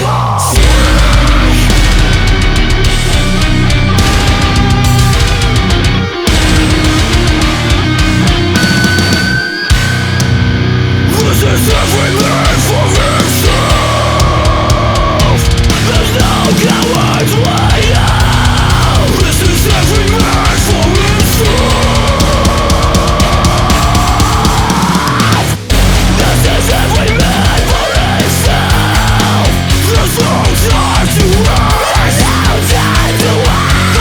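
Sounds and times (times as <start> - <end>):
heavy metal music: 0.0 - 34.0.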